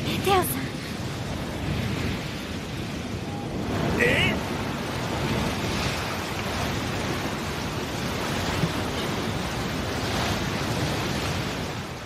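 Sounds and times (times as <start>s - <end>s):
crashing waves: 0.0s - 12.0s
heavy rain: 0.0s - 12.0s
wind: 0.0s - 12.0s.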